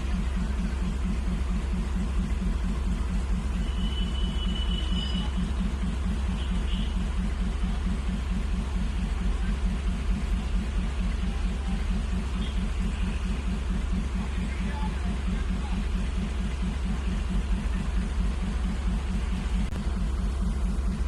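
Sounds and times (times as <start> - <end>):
large engine idling: 0.0 - 21.0.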